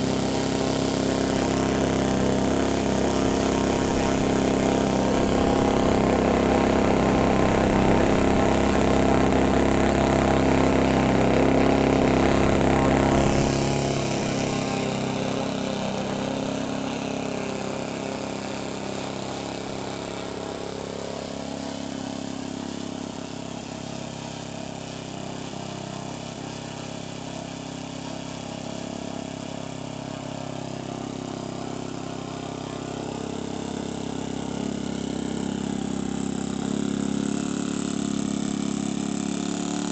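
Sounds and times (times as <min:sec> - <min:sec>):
model aircraft engine running: 0:00.0 - 0:39.9.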